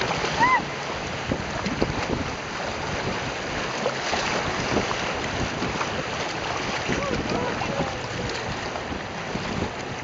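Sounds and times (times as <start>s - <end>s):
river rushing through rapids: 0.0s - 10.0s
wind buffeting microphone: 0.0s - 10.0s.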